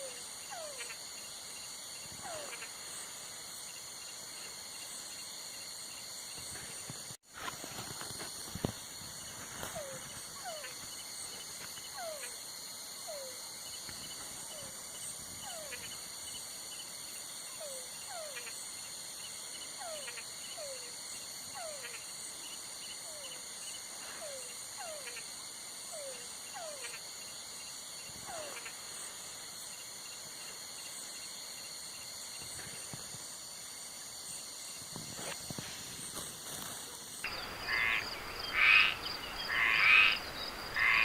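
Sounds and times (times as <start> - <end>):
crickets chirring: 0.0 - 41.0.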